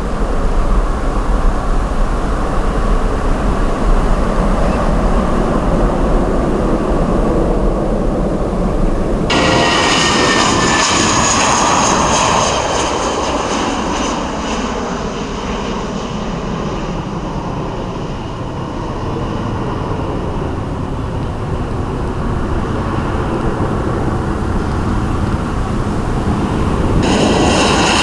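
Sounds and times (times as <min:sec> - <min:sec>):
jet airliner engines passing: 0:00.0 - 0:28.0.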